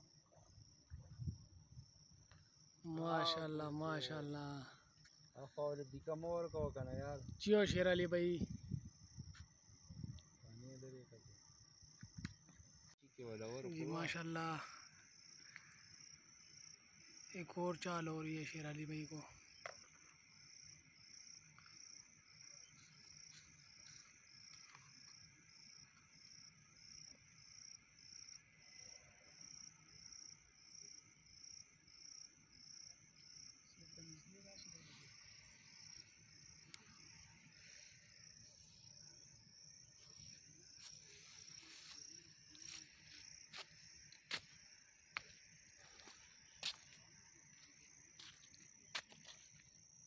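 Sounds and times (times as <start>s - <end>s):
faint insect chirping: 0.0s - 50.0s.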